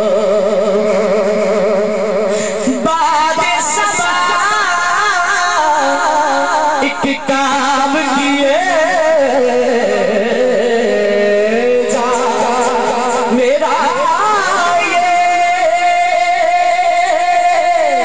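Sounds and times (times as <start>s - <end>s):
man singing long held notes: 0.0s - 18.0s.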